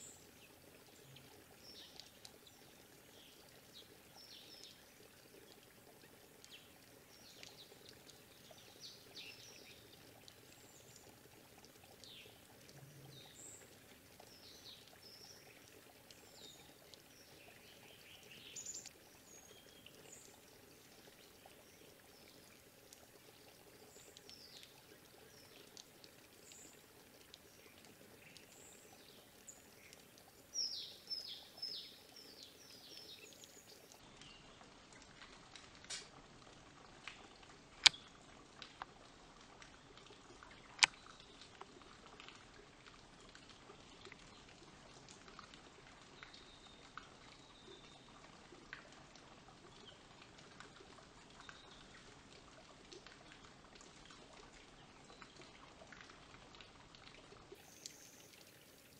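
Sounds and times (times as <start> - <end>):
water trickling and dripping: 0.0 - 58.9.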